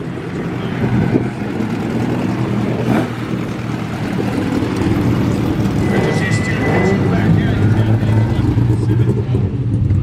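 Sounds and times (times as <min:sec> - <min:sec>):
race car engine rumbling: 0:00.0 - 0:10.0.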